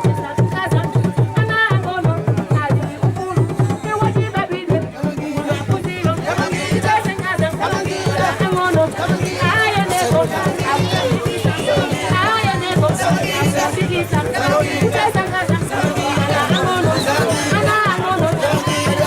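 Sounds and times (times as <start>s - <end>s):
drums beating fast rhythm: 0.0s - 19.0s
voices singing: 0.0s - 19.0s.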